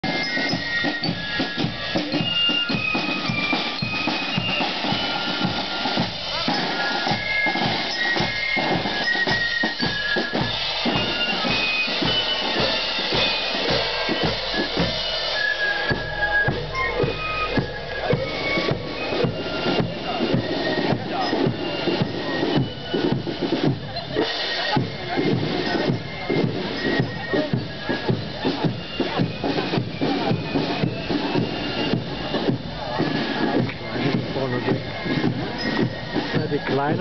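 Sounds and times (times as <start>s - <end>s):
shrill fife melody: 0.0s - 37.0s
snare and bass drums: 0.0s - 37.0s.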